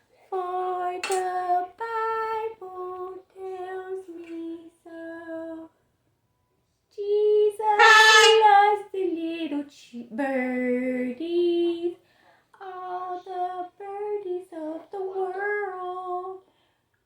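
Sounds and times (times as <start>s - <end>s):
woman singing unaccompanied: 0.2s - 5.8s, 6.9s - 12.0s, 12.6s - 16.5s.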